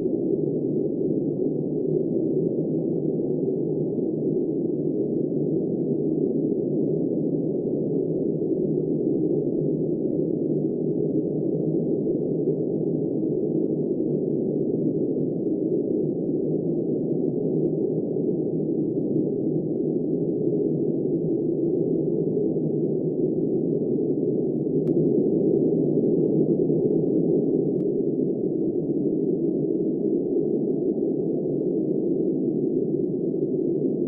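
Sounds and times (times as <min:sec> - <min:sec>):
muffled blizzard wind: 0:00.0 - 0:34.0.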